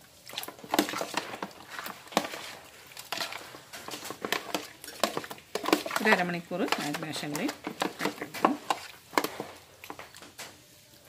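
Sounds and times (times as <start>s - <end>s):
hand squelching meat in marinade: 0.2s - 10.0s.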